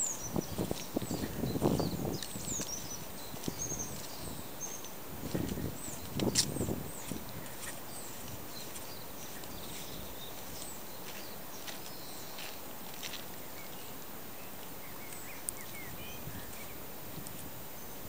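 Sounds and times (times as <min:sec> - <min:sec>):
bird chirps: 0:00.0 - 0:12.5, 0:13.5 - 0:16.8
steady background hiss: 0:00.0 - 0:18.0.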